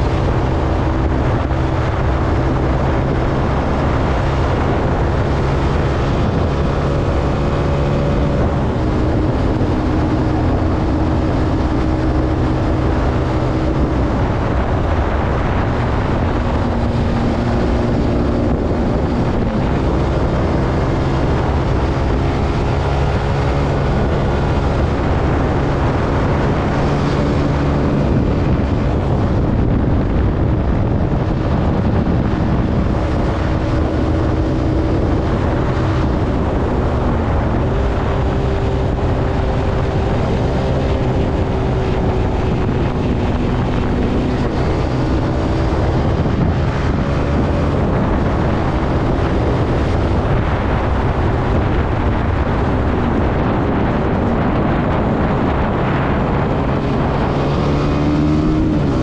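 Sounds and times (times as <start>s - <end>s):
motorcycle engine running: 0.0s - 59.0s
wind noise: 0.0s - 59.0s.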